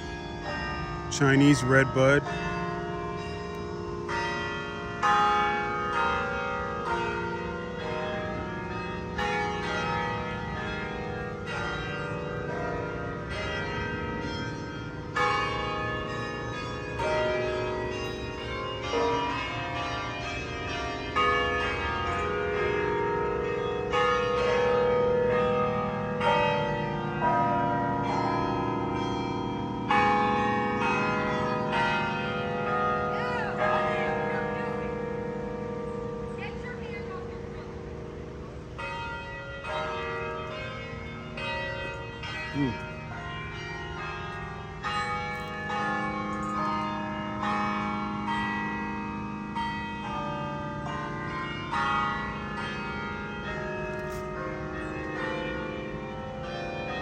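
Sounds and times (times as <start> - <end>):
carillon bells playing melody: 0.0 - 35.1, 38.8 - 57.0.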